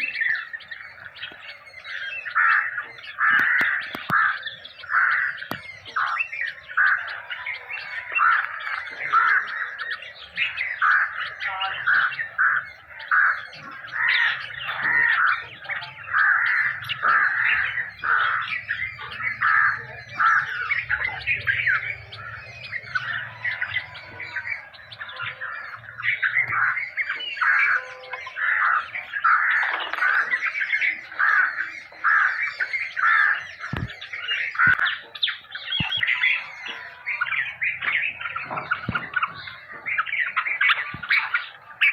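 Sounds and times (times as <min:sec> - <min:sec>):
young birds begging calls: 0:00.0 - 0:41.9.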